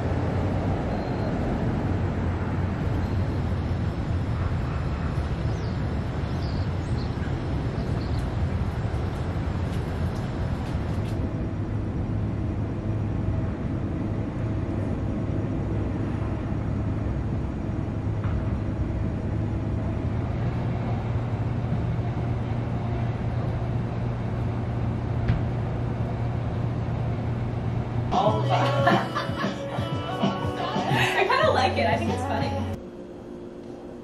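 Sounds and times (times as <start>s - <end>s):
low rumble: 0.0s - 33.3s.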